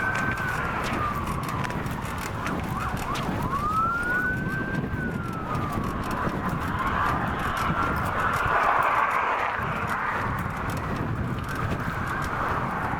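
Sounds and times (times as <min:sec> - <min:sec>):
siren yelps: 0:00.0 - 0:10.5
fire truck siren wailing: 0:00.0 - 0:12.9.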